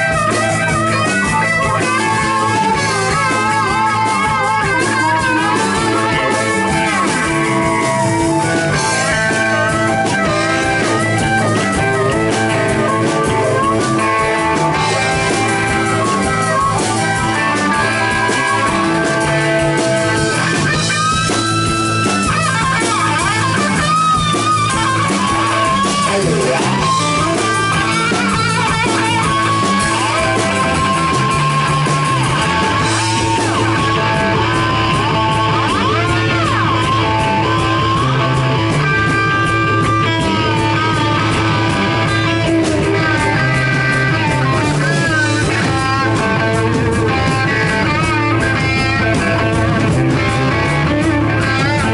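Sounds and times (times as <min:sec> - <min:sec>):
blues rock band playing: 0:00.0 - 0:51.9
harmonica: 0:00.0 - 0:51.9.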